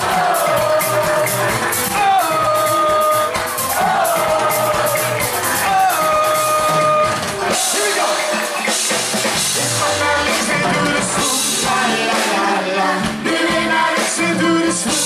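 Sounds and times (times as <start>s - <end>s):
drum-kit beat: 0.0s - 15.0s
live band playing dance-pop: 0.0s - 15.0s.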